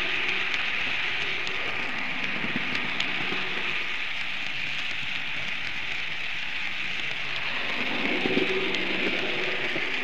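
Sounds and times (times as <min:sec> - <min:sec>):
faint clicks: 0:00.0 - 0:10.0
model train rolling: 0:00.0 - 0:10.0.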